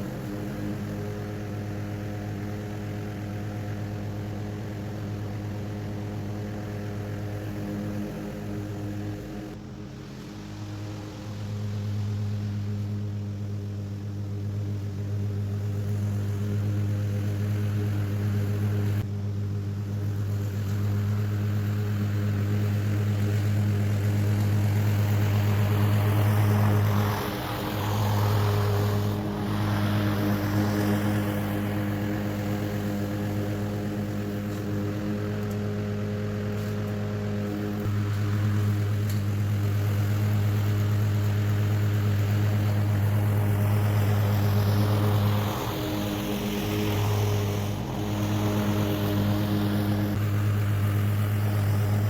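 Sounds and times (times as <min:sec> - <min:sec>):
lawn mower engine running: 0:00.0 - 0:52.0.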